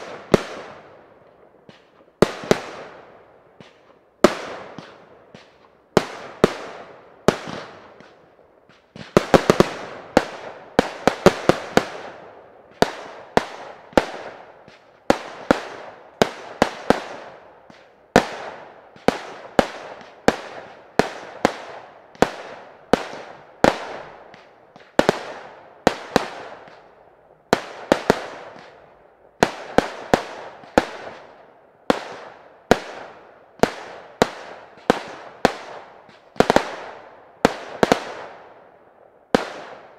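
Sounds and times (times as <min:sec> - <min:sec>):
fireworks bangs echoing: 0:00.0 - 0:38.7, 0:39.3 - 0:39.9.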